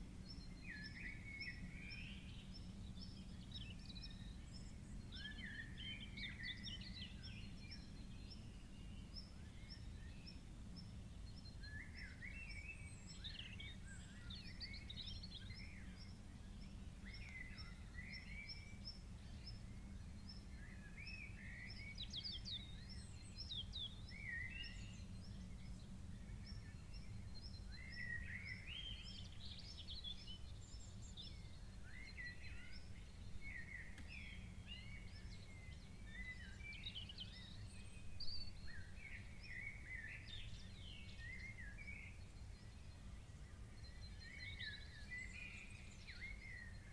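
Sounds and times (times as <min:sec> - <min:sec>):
birds chirping and singing: 0:00.2 - 0:46.9.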